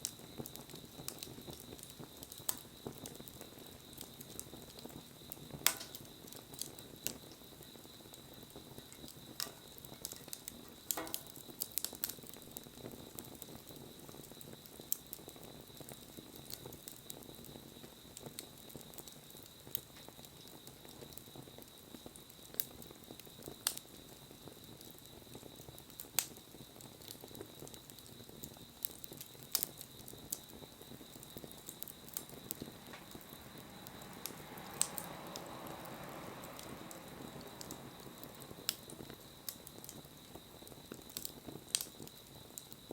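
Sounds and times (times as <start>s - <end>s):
bonfire crackling and popping: 0.0s - 42.9s
faint steady hiss: 0.0s - 42.9s.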